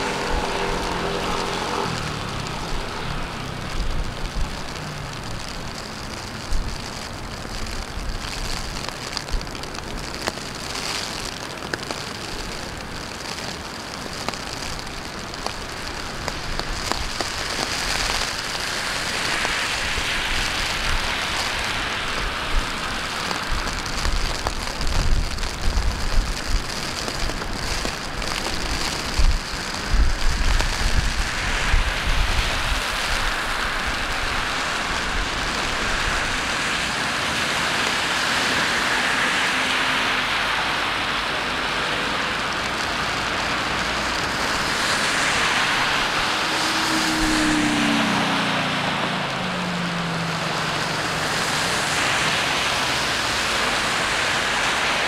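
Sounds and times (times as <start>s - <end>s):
low rumble of traffic: 0.0s - 55.0s
steady rain falling: 0.0s - 55.0s.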